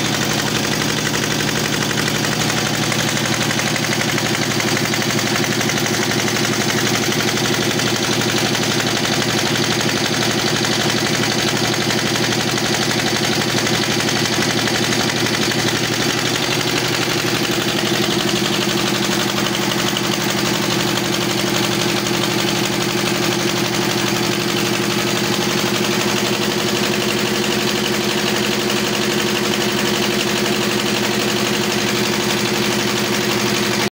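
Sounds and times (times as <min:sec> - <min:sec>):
diesel engine knocking beat: 0:00.0 - 0:33.9.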